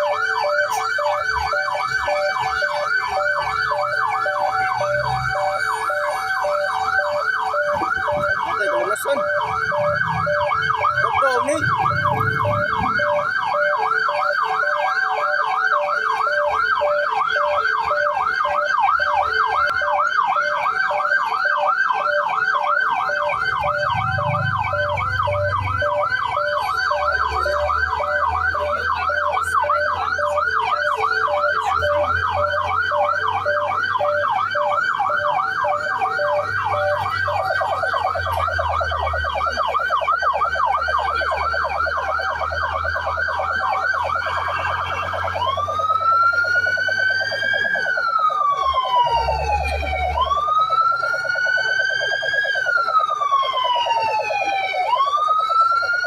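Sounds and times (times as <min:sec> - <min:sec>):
lower yelping siren: 0:00.0 - 0:56.0
pulsing siren tone: 0:00.0 - 0:56.0
yelping emergency siren: 0:00.0 - 0:56.0.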